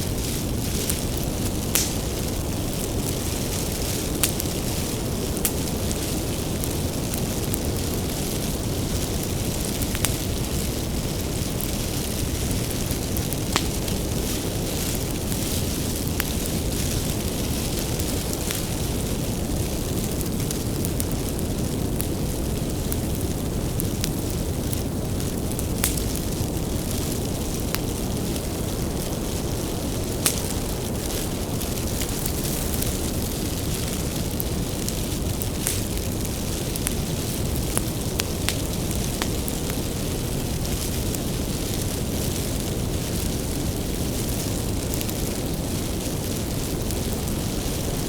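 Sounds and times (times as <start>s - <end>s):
firewood crackling and popping: 0.0s - 48.0s
wood fire rumbling: 0.0s - 48.0s.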